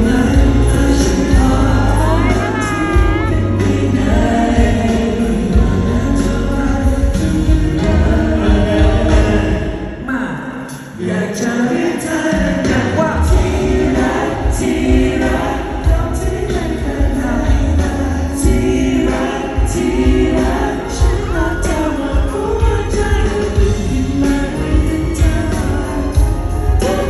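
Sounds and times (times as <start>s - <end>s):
heavy bass: 0.0s - 9.7s, 12.5s - 27.0s
steady drum beat: 0.0s - 9.8s, 12.3s - 27.0s
amplified pop band music: 0.0s - 27.0s
person singing: 0.0s - 27.0s.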